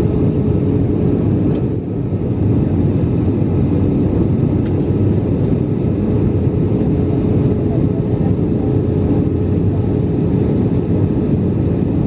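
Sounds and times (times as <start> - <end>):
aircraft cabin engine hum: 0.0 - 12.0.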